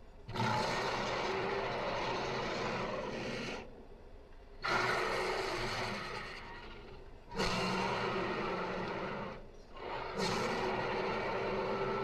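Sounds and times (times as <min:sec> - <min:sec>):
dinosaur growling roar: 0:00.3 - 0:03.6, 0:04.6 - 0:12.0.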